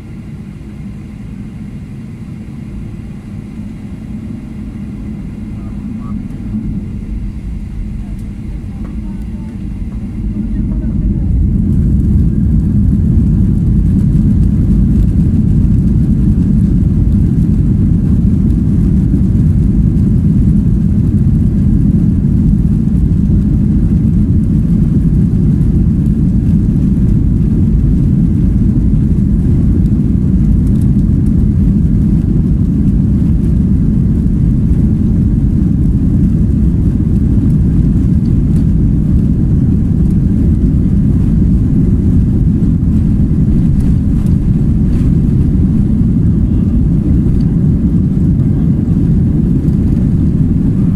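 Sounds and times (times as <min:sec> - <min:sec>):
jet engines rumbling inside cabin: 0:00.0 - 0:50.9.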